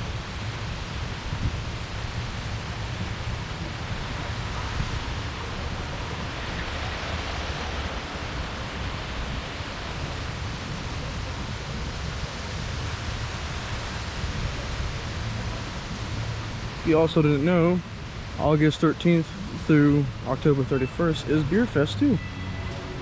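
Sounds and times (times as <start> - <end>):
rushing outdoor background noise: 0.0 - 23.0.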